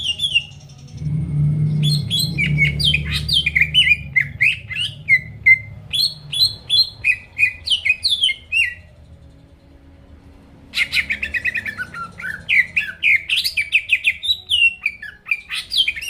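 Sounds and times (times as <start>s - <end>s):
bird singing sharp descending notes: 0.0s - 9.0s, 10.7s - 16.0s.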